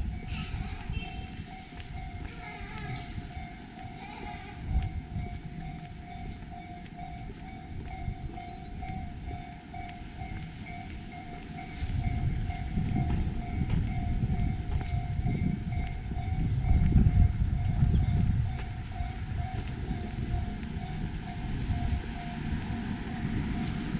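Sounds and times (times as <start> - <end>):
electric train rumbling: 0.0 - 23.9.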